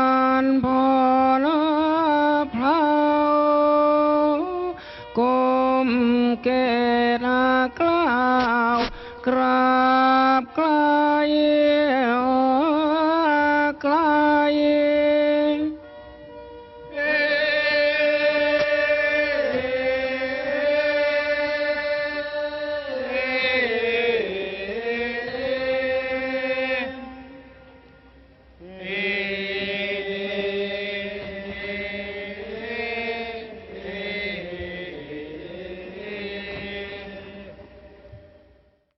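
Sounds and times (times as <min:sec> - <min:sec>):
person chanting long notes: 0:00.0 - 0:38.2.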